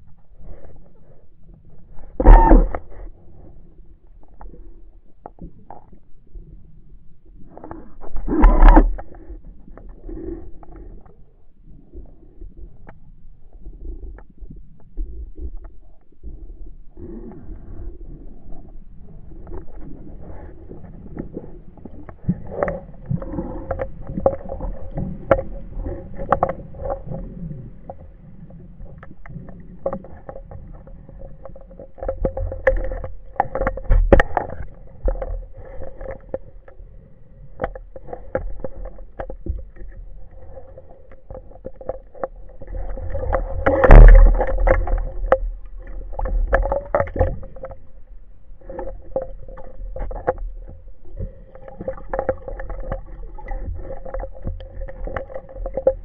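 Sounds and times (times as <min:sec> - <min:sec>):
muffled underwater noise: 0:00.0 - 0:56.0.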